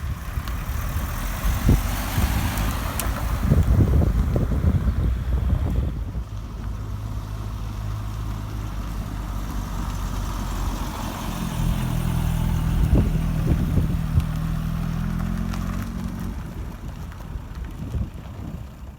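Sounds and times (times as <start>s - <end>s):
car engines idling: 0.0s - 18.9s.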